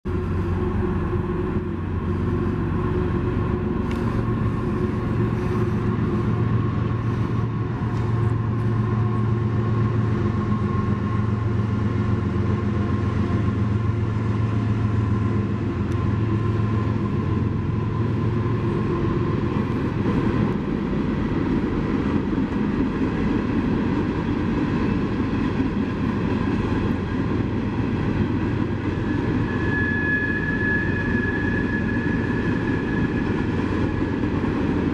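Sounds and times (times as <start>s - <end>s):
diesel locomotives droning: 0.0s - 34.9s.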